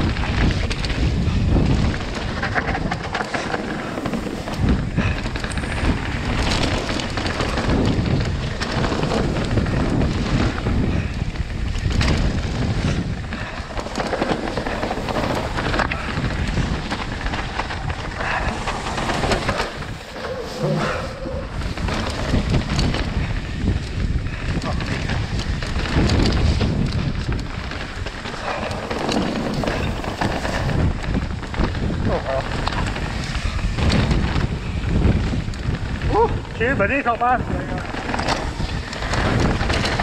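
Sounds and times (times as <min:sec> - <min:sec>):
bike knocking and rattling: 0:00.0 - 0:40.0
rush of tyre and wind noise: 0:00.0 - 0:40.0.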